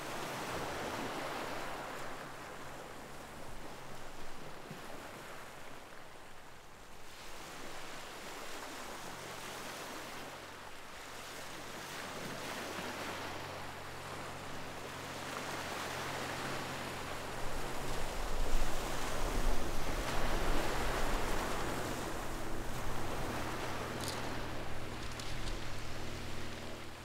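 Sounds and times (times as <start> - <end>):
waves breaking on shore: 0.0 - 27.0.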